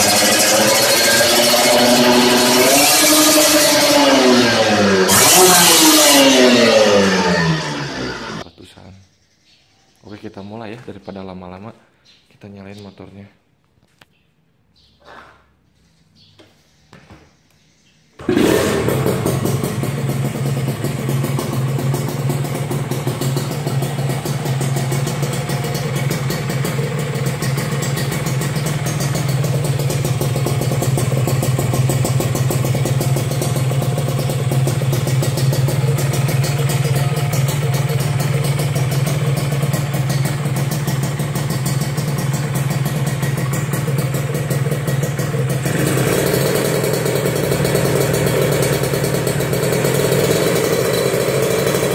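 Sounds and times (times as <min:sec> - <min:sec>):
two-stroke motorcycle engine idling: 0:00.0 - 0:08.4, 0:18.2 - 0:51.9.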